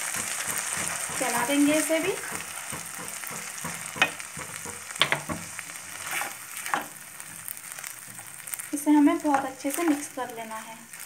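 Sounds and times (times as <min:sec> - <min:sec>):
masala sizzling in oil: 0:00.0 - 0:11.0
spatula stirring and scraping: 0:00.0 - 0:11.0.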